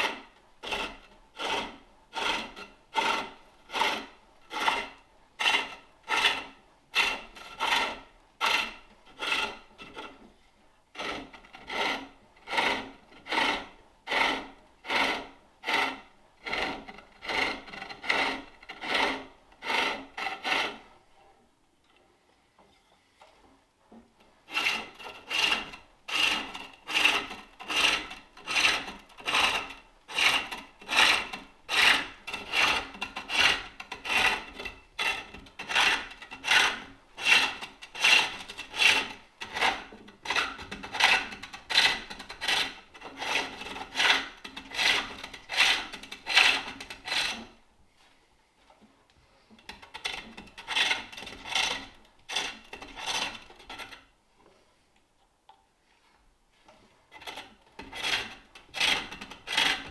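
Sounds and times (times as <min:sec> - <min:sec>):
tool shaving spinning wood: 0:00.0 - 0:10.1, 0:11.0 - 0:20.9, 0:24.5 - 0:47.6, 0:50.0 - 0:53.6, 0:57.3 - 0:59.9.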